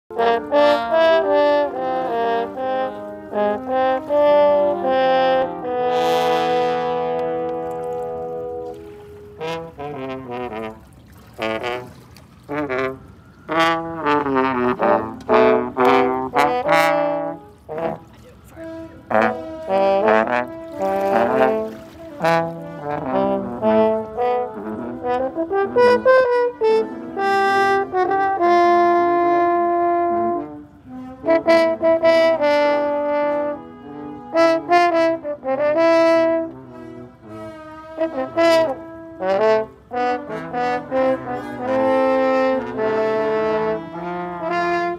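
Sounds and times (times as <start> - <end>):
french horns playing: 0.1 - 44.9.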